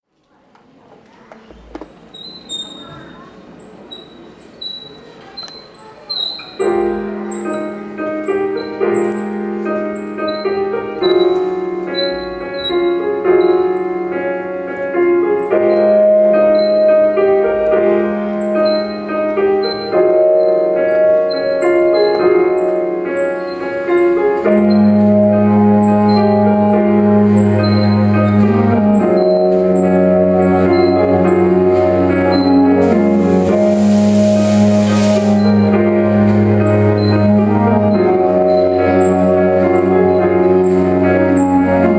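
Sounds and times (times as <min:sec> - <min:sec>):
piano music: 0:06.2 - 0:41.9.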